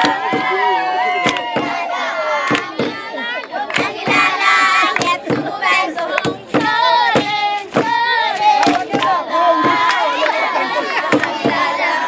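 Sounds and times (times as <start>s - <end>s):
hand claps: 0.0s - 0.6s, 1.2s - 1.8s, 2.4s - 11.7s
girls singing in chorus: 0.0s - 12.0s.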